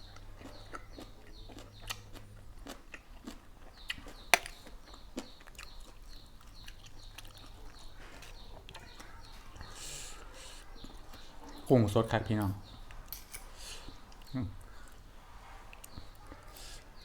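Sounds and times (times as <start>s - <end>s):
chewing and crunching vegetables: 0.0s - 15.1s, 15.7s - 17.0s
small birds chirping: 0.0s - 17.0s.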